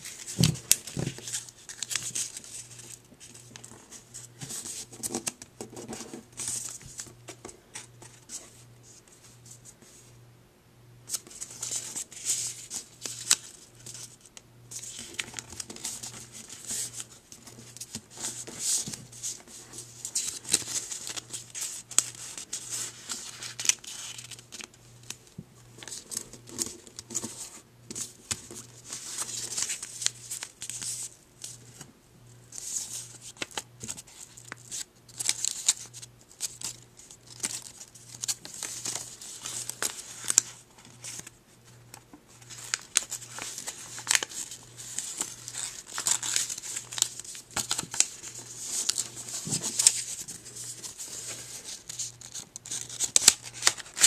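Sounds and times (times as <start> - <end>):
paper rustling and crinkling: 0.0 - 9.6, 11.1 - 31.9, 32.5 - 54.0.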